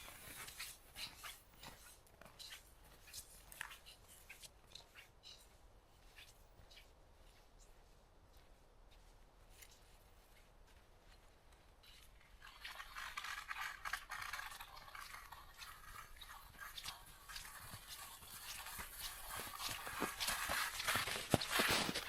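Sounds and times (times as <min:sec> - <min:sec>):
crunching footsteps: 0:00.0 - 0:22.0.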